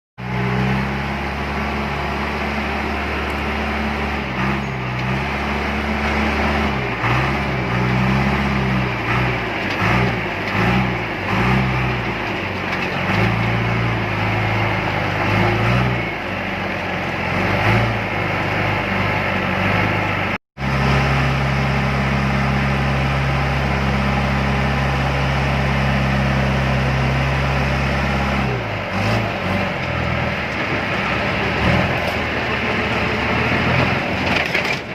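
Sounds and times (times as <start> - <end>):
diesel machinery engines running: 0.2 - 34.9.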